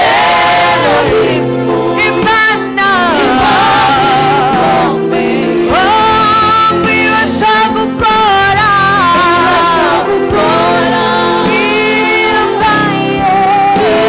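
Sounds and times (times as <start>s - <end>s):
instrumental accompaniment: 0.0s - 14.0s
person singing into a microphone: 0.7s - 14.0s.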